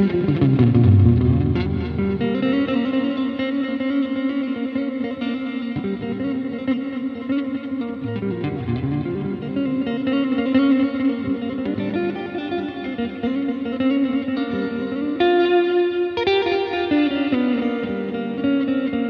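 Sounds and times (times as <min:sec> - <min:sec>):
clean electric guitar blues: 0:00.0 - 0:19.0.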